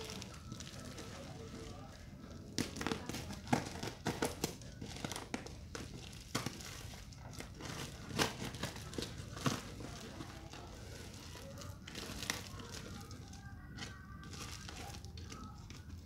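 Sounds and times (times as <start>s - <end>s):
plastic wrapping crinkling and tearing: 0.0s - 16.0s.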